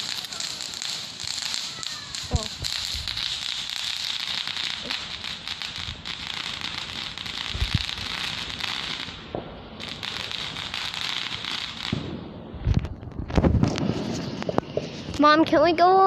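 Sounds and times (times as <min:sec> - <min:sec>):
firework crackling and hissing: 0:00.0 - 0:16.0.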